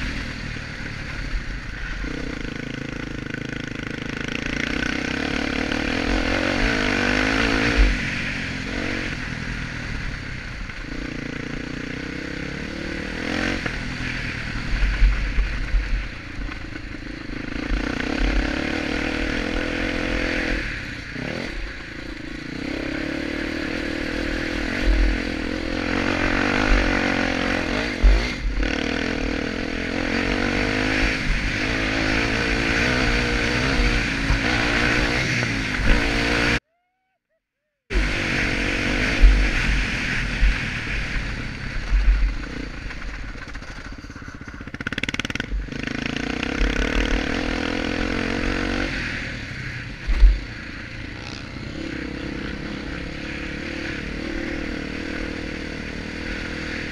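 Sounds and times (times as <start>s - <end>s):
motorcycle engine revving: 0.0s - 36.7s, 37.8s - 56.9s.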